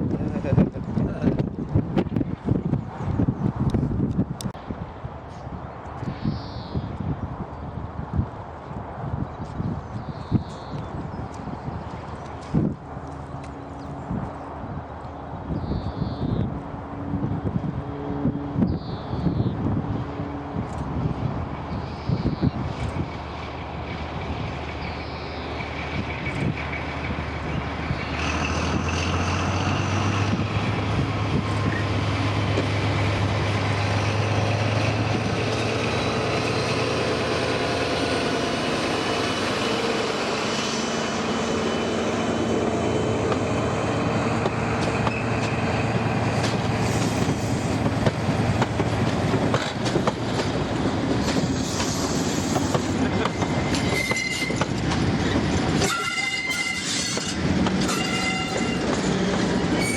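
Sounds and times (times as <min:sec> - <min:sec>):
locomotive engine drone: 0:10.8 - 0:59.9.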